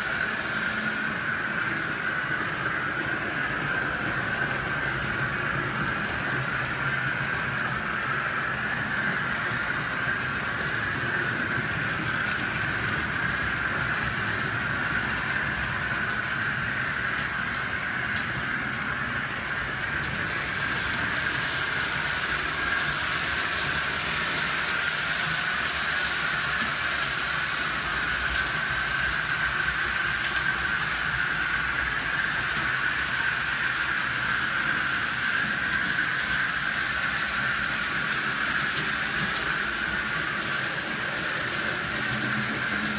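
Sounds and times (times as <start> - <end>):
model train whine: 0.0 - 42.9.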